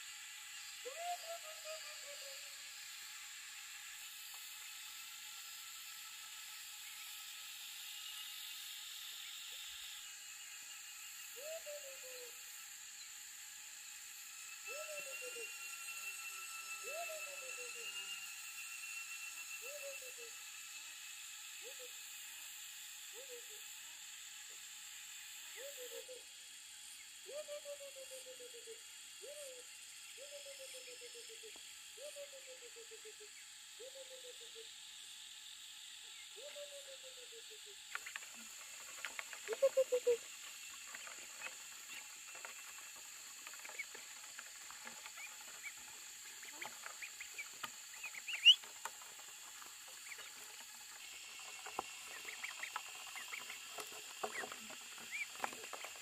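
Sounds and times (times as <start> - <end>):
animal rattly call: 0.0 - 56.0
steady high hiss: 0.0 - 56.0.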